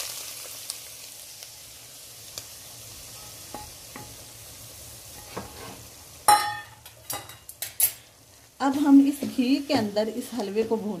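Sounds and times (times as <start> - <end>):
ghee sizzling in a pot: 0.0 - 11.0.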